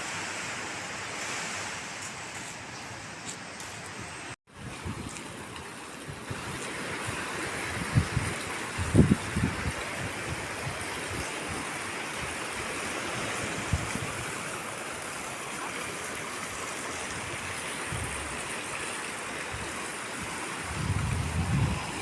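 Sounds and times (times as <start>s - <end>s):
ocean surf breaking: 0.0s - 4.4s, 5.2s - 22.0s.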